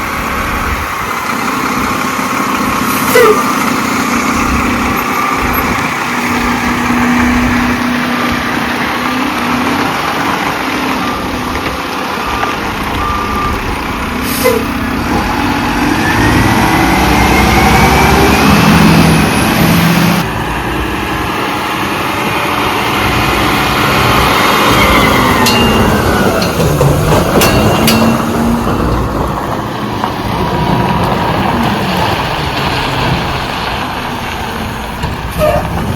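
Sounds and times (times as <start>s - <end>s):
garbage truck engine revving: 0.0s - 35.9s.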